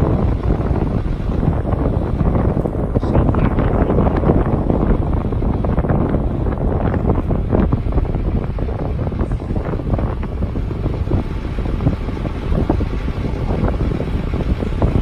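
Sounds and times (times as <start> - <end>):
truck engine running: 0.0 - 15.0
wind buffeting microphone: 0.0 - 15.0.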